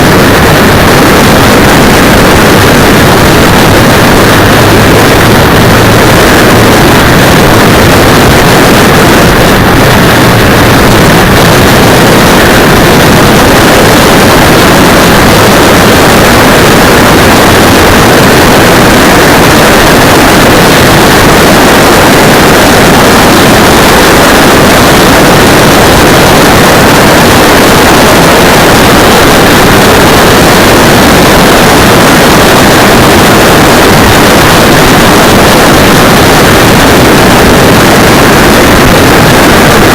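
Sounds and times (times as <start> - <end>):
motorcycle riding noise: 0.0 - 39.9
wind rushing over microphone: 0.0 - 39.9.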